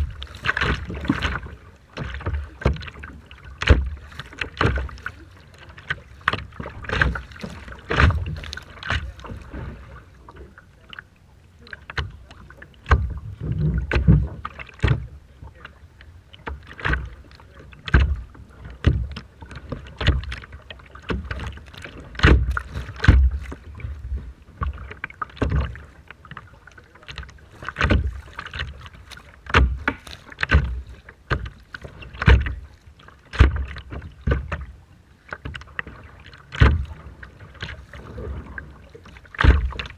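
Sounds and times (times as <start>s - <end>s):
water splashing against boat hull: 0.0s - 39.9s.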